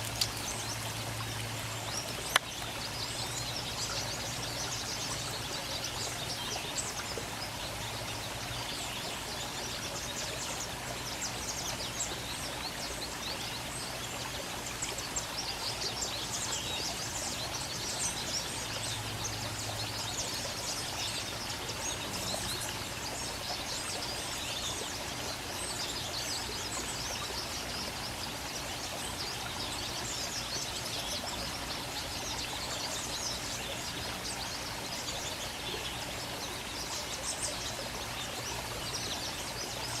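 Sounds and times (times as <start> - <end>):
birds chirping and twittering: 0.0 - 40.0.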